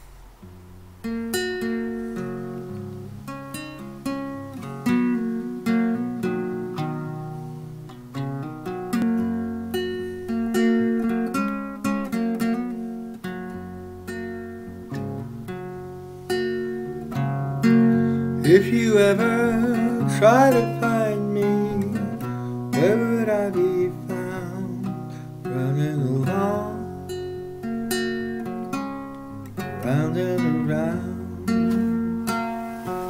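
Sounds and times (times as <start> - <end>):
acoustic guitar chords strummed: 0.0 - 33.0.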